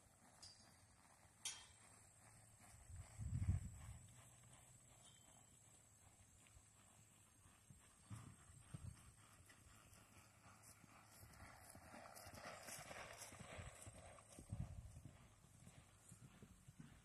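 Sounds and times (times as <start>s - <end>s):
horse hoofbeats on grass: 0.0s - 17.0s.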